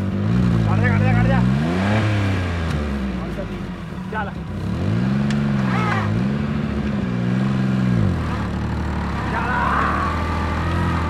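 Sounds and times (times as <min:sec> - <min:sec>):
small car engine revving: 0:00.0 - 0:03.6, 0:04.5 - 0:11.0.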